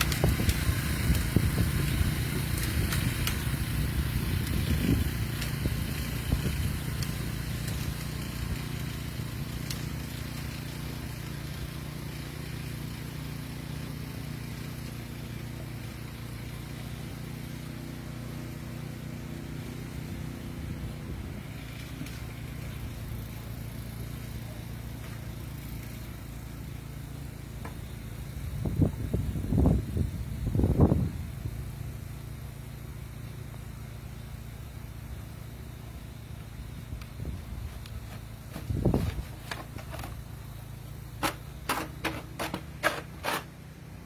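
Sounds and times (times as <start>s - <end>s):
engine running with low hum: 0.0s - 44.0s.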